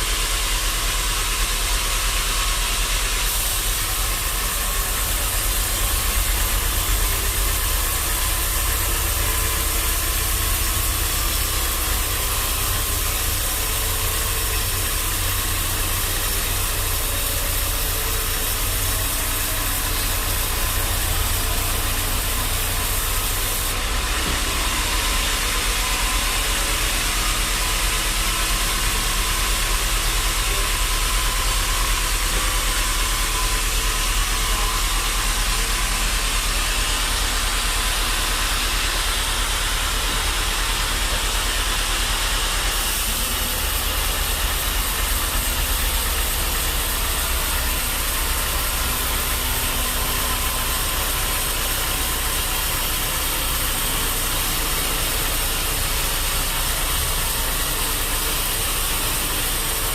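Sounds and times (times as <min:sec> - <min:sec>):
bandsaw sawmill running: 0:00.0 - 0:59.9.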